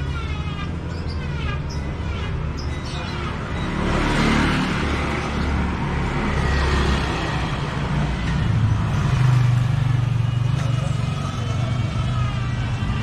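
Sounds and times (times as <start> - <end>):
tyre and road noise: 0.0 - 13.0
vehicles passing: 0.0 - 13.0.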